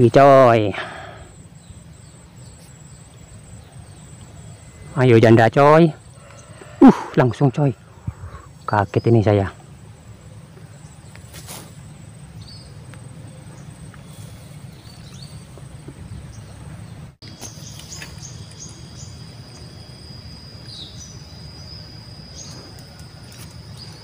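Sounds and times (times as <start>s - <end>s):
high-pitched insect drone: 0.0s - 24.0s
small birds chirping: 0.0s - 24.0s.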